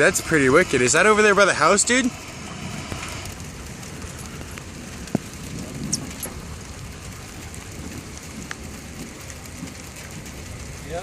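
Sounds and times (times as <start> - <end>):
raindrop ticks: 0.0 - 11.0
storm rumble: 0.0 - 11.0.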